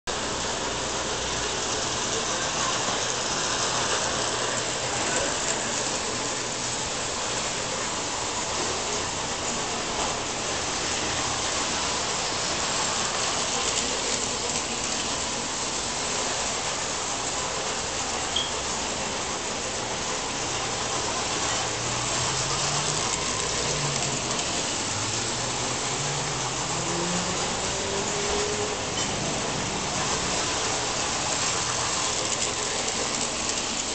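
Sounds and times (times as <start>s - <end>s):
model train running on track: 0.1s - 33.9s.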